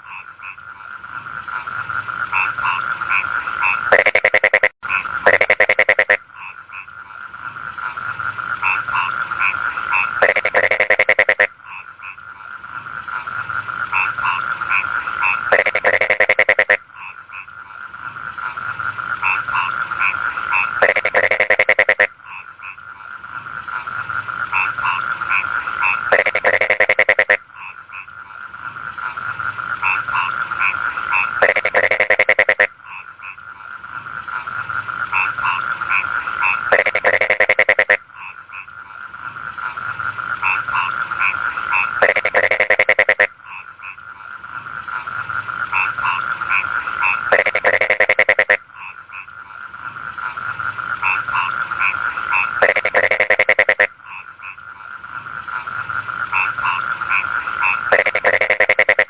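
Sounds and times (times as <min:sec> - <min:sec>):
frogs croaking in chorus: 0:00.0 - 0:59.0
rattling pulsed frog call: 0:01.5 - 0:07.0, 0:07.8 - 0:12.4, 0:13.6 - 0:17.6, 0:18.4 - 0:23.0, 0:23.7 - 0:28.2, 0:29.0 - 0:33.6, 0:34.3 - 0:38.8, 0:39.6 - 0:44.3, 0:44.9 - 0:49.5, 0:50.2 - 0:59.0.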